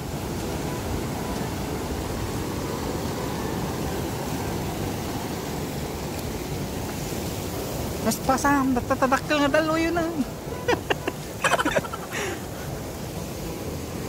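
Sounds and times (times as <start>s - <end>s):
ocean surf on rocky shore: 0.0s - 14.0s.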